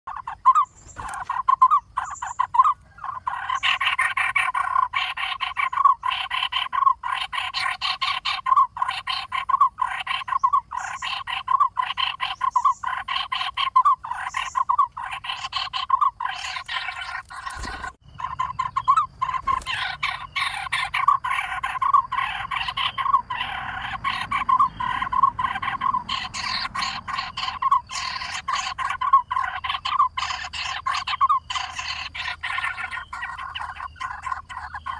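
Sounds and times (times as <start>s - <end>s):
woodpecker nestlings begging calls: 0.1s - 34.9s.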